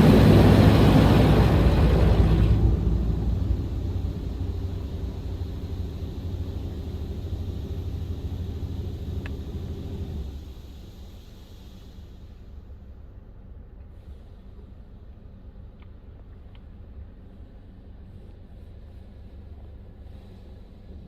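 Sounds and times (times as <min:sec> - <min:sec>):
car wash rumble and hum: 0:00.0 - 0:21.0.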